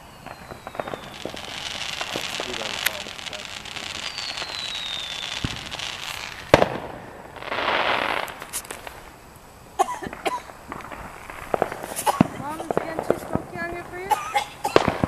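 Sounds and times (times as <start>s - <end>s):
firework bang: 0.0s - 9.2s, 9.8s - 15.0s
firework hissing rush: 0.0s - 15.0s
firework pops and crackles: 0.0s - 15.0s.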